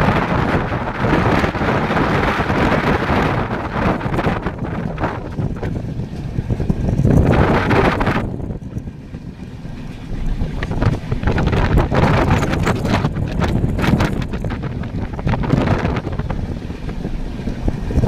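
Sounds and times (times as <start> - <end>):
train rumbling on track: 0.0 - 18.0
wind buffeting microphone: 0.0 - 18.0.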